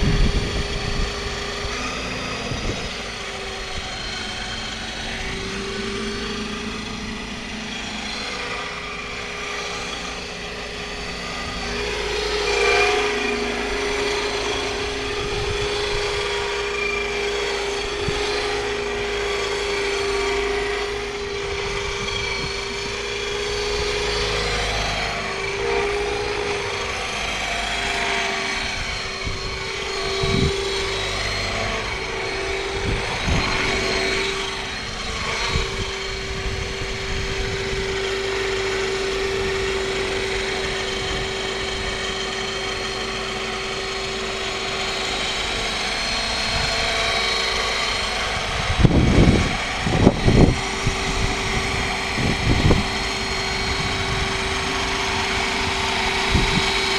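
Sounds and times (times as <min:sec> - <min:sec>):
model helicopter whine and rotor: 0:00.0 - 0:56.9
turbine sound effect: 0:00.0 - 0:56.9.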